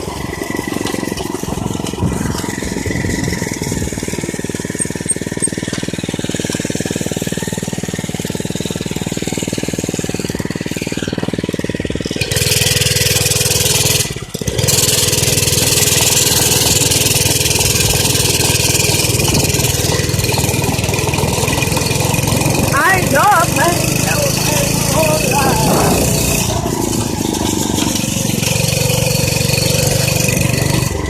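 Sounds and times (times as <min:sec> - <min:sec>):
small engine running: 0:00.0 - 0:31.0.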